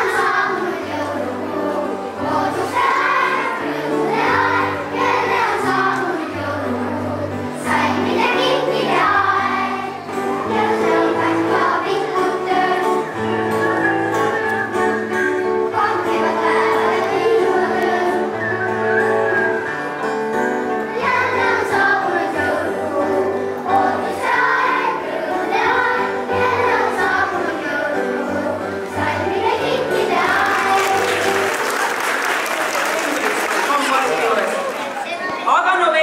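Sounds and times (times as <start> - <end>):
instrumental accompaniment: 0.0 - 32.2
children's choir singing: 0.0 - 35.0.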